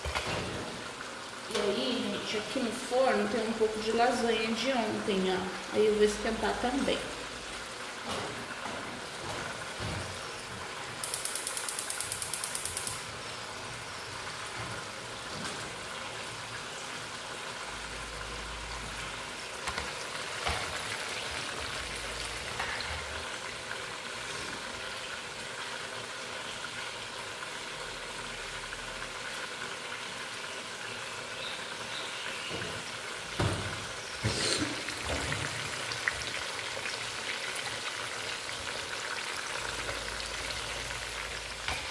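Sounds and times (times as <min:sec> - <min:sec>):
steaks sizzling in hot oil: 0:00.0 - 0:41.9.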